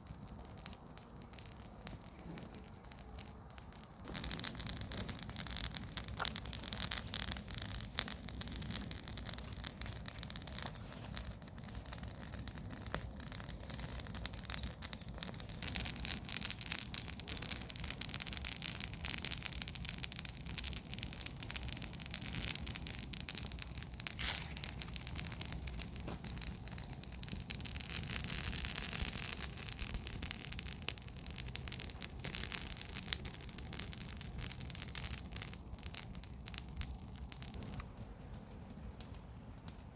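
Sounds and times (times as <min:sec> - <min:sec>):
bonfire crackling: 0:00.0 - 0:39.9
continuous hiss: 0:00.0 - 0:39.9.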